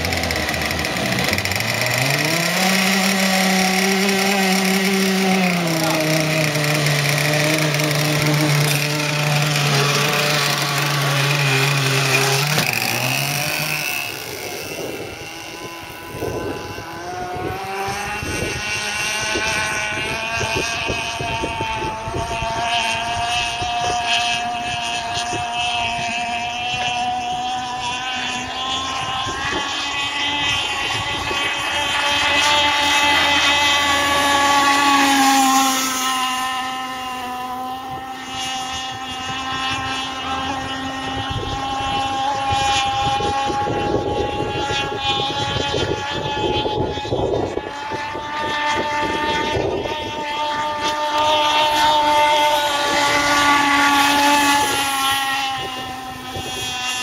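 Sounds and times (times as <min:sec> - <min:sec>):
speedboat engine whining: 0:00.0 - 0:57.0.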